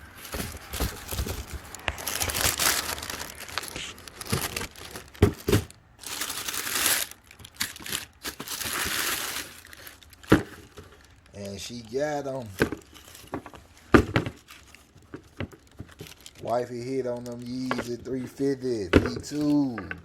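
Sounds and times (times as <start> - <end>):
packaging crinkling: 0.0 - 19.9.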